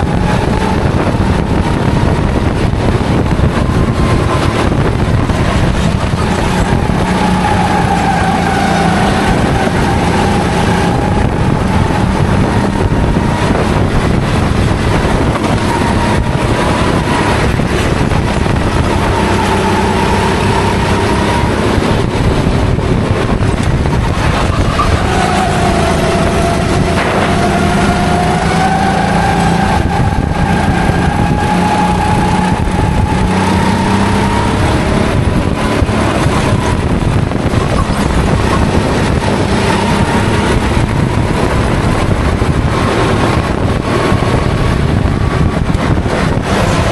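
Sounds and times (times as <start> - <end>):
racing kart engine: 0.0 - 46.9.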